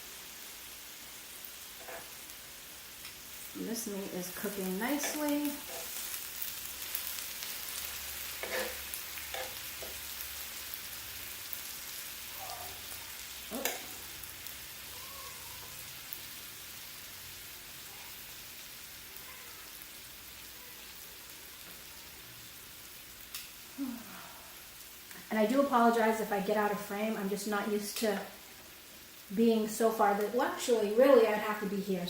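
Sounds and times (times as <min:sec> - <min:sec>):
meat sizzling on a grill: 0:00.0 - 0:32.0.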